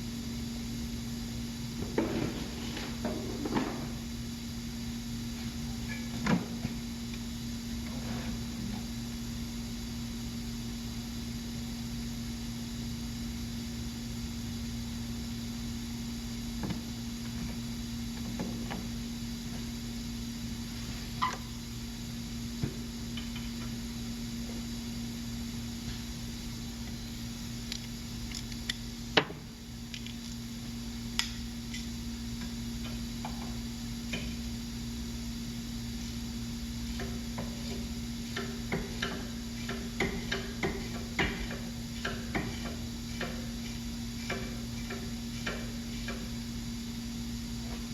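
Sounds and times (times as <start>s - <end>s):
background hum: 0.0s - 47.9s.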